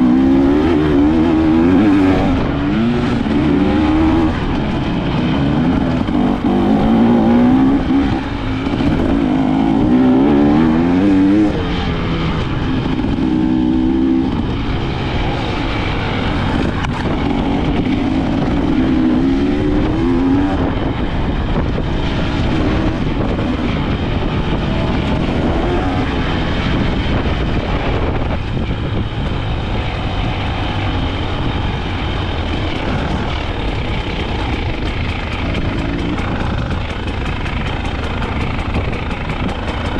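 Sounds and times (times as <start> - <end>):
two-stroke engine revving: 0.0 - 39.9
wind rush: 0.0 - 39.9.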